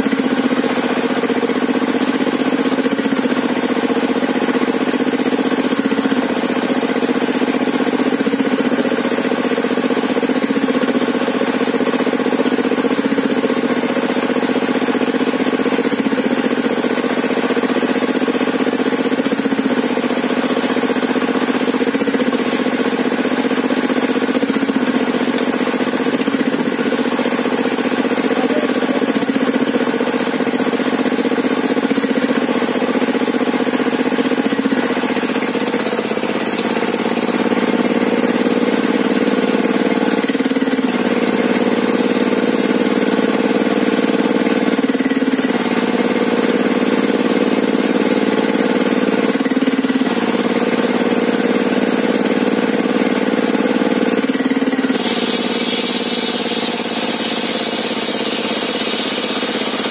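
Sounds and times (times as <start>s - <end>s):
stationary engine running: 0.0s - 59.9s.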